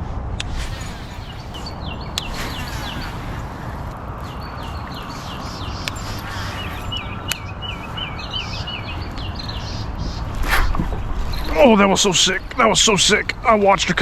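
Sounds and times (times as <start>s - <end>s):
wind buffeting microphone: 0.0s - 14.0s
songbird whistling: 0.7s - 13.4s.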